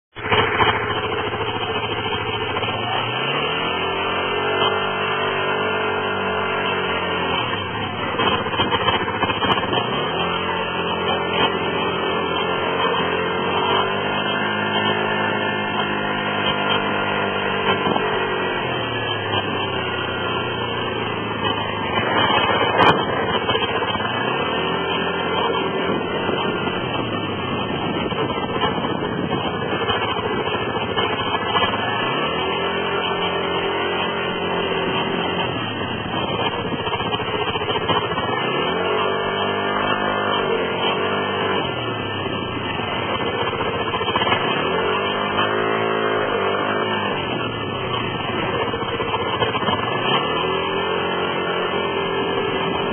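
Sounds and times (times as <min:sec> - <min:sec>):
scooter engine accelerating: 0:00.0 - 0:52.9.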